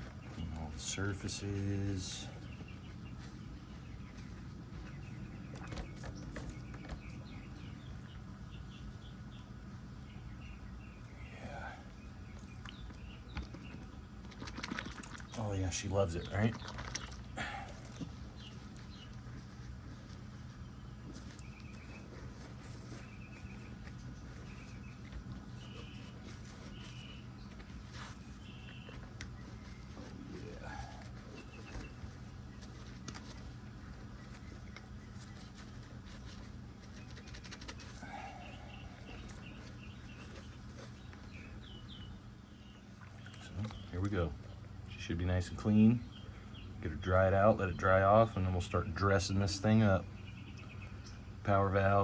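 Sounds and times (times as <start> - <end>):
birds chirping: 0.0 - 52.0
steady low hum: 0.0 - 52.0.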